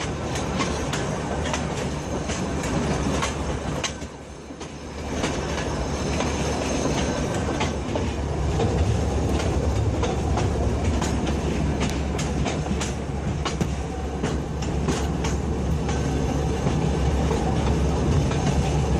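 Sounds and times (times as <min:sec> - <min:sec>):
train rumbling on rails: 0:00.0 - 0:18.9
wheels clacking on track: 0:00.0 - 0:18.9.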